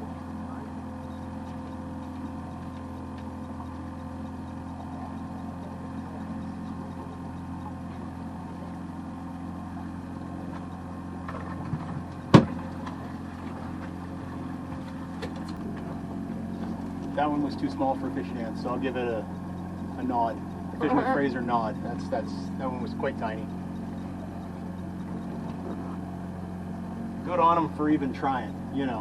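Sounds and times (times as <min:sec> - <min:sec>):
boat motor running: 0:00.0 - 0:29.0.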